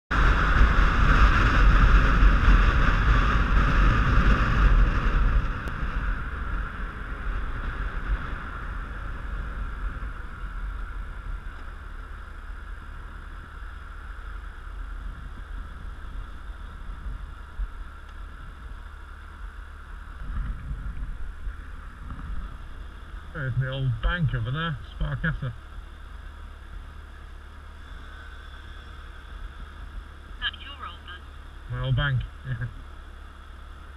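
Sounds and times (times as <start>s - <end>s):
road noise: 0.0s - 33.9s
wind rushing over microphone: 0.1s - 27.9s
motorcycle engine: 0.1s - 33.9s.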